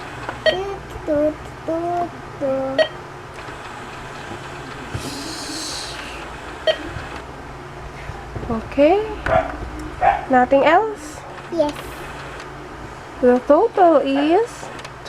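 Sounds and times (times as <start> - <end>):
conveyor belt motor hum: 0.0 - 15.0.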